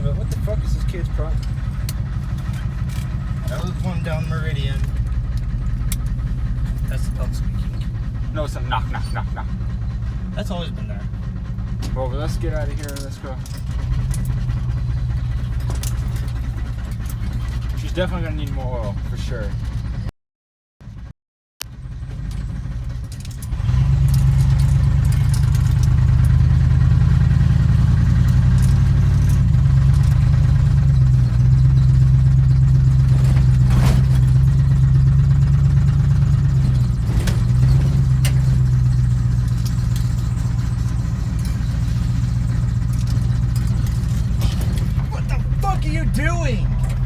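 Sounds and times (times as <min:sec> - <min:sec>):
pickup truck engine droning: 0:00.0 - 0:20.1, 0:21.6 - 0:47.0.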